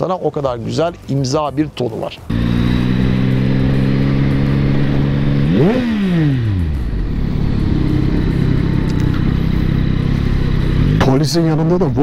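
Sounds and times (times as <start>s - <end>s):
motorcycle engine running: 2.3s - 12.0s.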